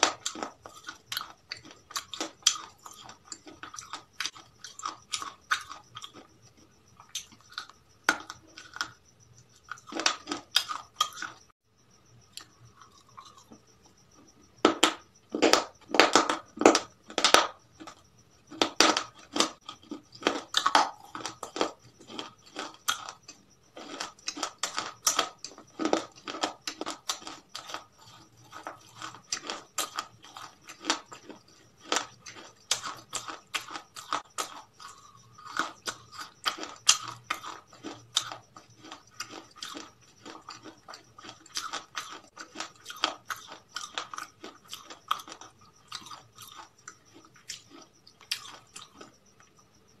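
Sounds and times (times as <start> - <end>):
crunching and chewing fried chicken: 0.0 - 49.8.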